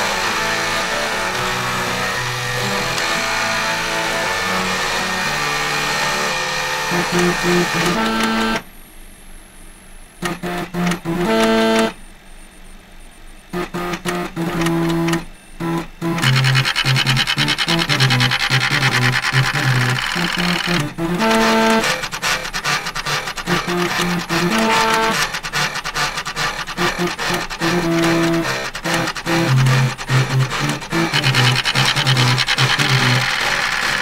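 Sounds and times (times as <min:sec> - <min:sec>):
floppy drive motors buzzing a tune: 0:00.0 - 0:34.0.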